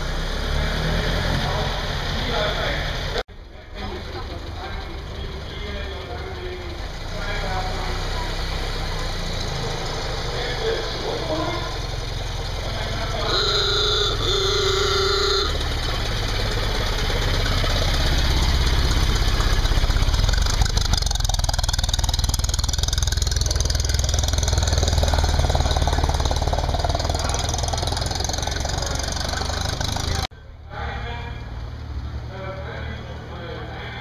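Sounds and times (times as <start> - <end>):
car engine low rumble: 0.0 - 34.0.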